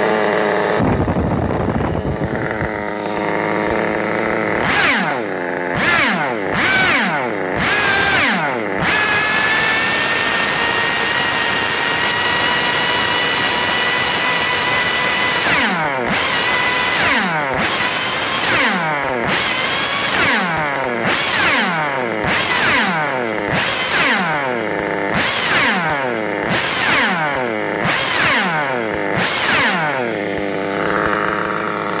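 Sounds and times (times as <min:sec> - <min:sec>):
small nitro engine revving: 0:00.0 - 0:32.0.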